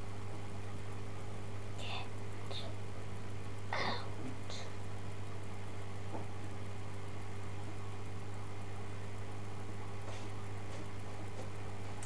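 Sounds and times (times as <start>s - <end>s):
low electrical hum with hiss: 0.0s - 12.0s.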